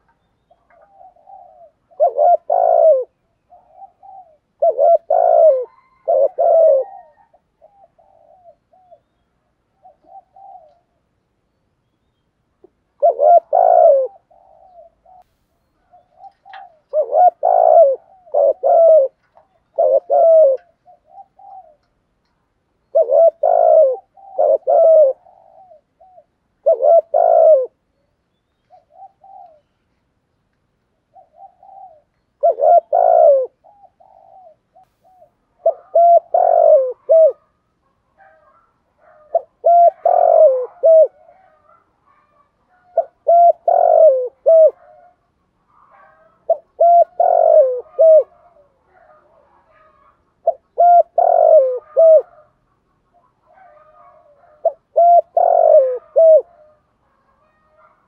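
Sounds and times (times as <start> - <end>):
dove cooing: 0.0 - 11.1, 12.6 - 22.1, 22.8 - 29.8, 31.0 - 58.0.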